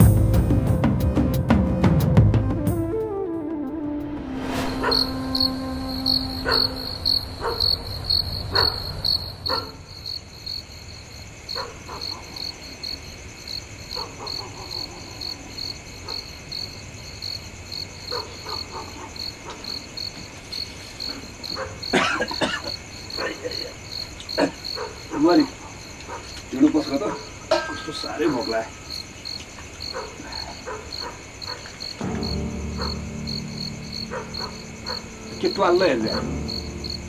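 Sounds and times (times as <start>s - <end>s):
cricket chirping: 4.4s - 37.0s.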